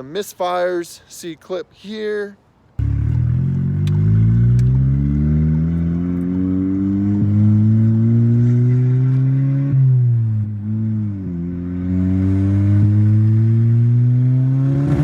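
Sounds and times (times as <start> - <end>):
car engine accelerating: 2.8 - 15.0.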